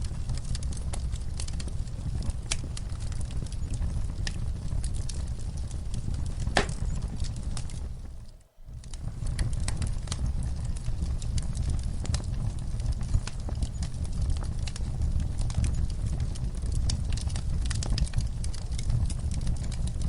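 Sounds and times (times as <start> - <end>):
fire flame rumble: 0.0 - 20.0
wood fire crackles and pops: 0.0 - 20.0.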